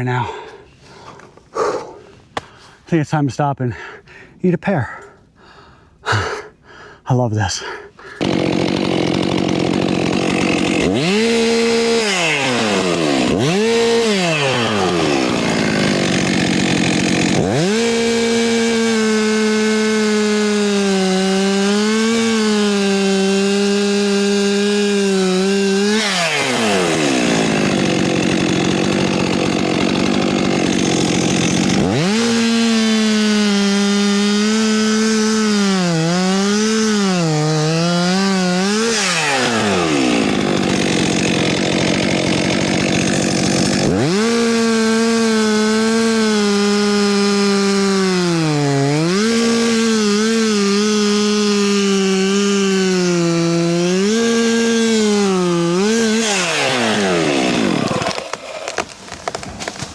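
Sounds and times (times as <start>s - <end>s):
chainsaw revving and cutting wood: 7.6s - 59.9s.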